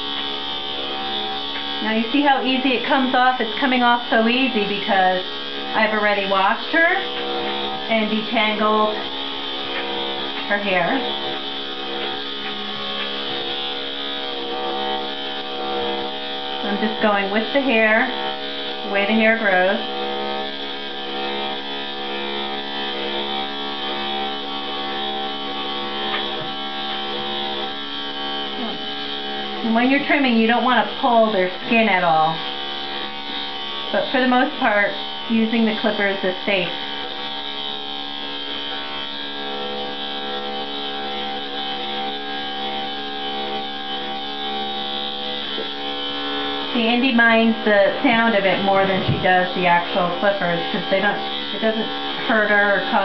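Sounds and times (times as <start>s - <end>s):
electric dog clipper buzzing: 0.0s - 53.0s.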